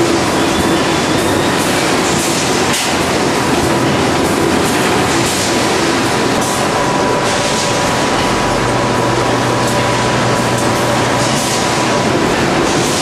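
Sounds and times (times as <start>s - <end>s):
bag palletiser mechanical clatter: 0.0s - 13.0s.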